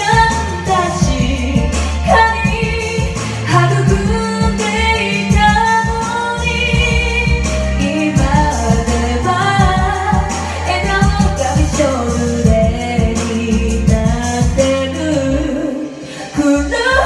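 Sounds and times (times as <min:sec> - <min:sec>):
karaoke backing track: 0:00.0 - 0:17.0
woman singing into a microphone: 0:00.0 - 0:17.0.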